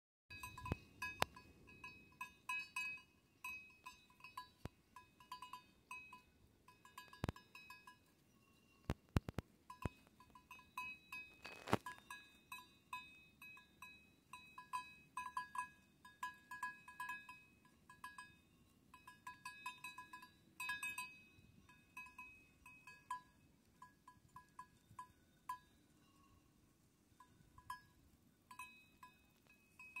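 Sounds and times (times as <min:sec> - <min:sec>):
sheep bell clinking: 0:00.3 - 0:30.0.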